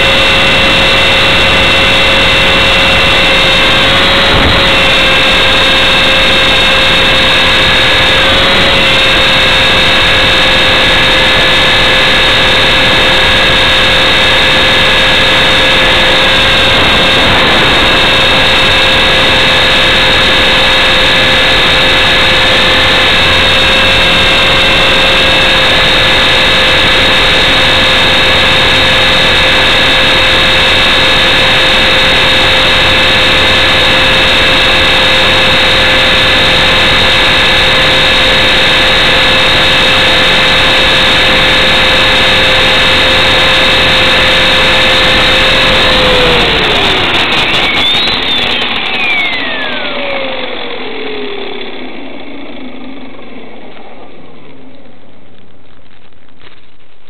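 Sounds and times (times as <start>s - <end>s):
rc helicopter rotor whine: 0.0s - 57.0s.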